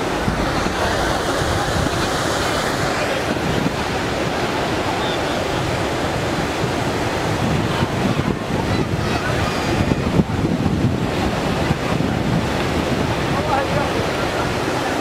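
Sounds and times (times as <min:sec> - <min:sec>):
floodwater rushing: 0:00.0 - 0:15.0
wind buffeting microphone: 0:00.0 - 0:15.0.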